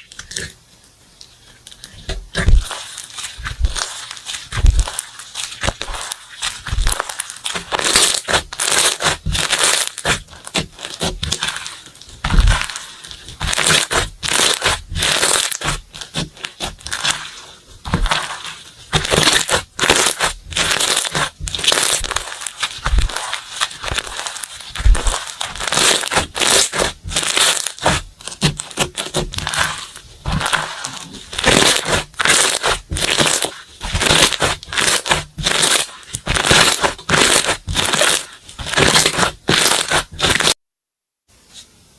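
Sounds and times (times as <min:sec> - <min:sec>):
slime squished crackling pops: 0:03.4 - 0:17.3, 0:17.9 - 0:40.6.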